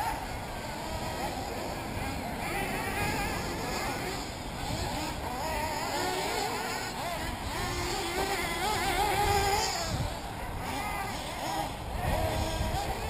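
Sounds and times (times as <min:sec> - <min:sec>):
rc buggy engines buzzing: 0:00.0 - 0:13.0.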